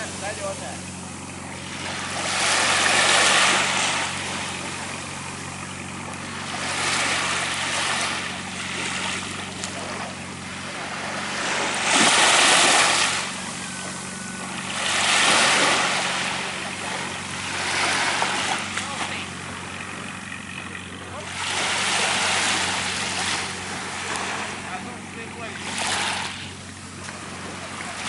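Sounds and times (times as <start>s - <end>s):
distant boat engine hum: 0.0s - 28.0s
small waves washing on sand: 0.0s - 28.0s.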